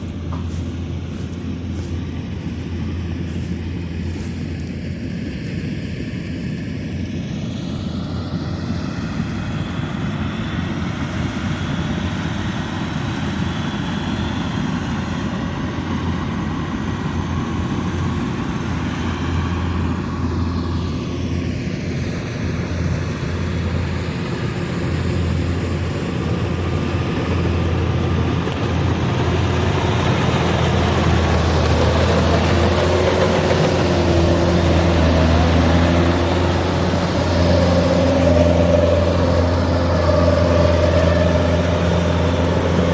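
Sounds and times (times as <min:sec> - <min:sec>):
combine harvester engine drone: 0:00.0 - 0:42.9.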